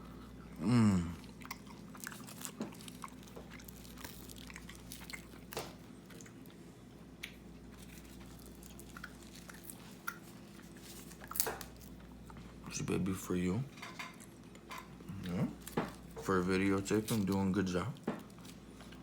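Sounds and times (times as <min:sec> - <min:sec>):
chewing dry fish: 0:00.0 - 0:12.8, 0:14.1 - 0:19.0
steady low hum: 0:00.0 - 0:19.0.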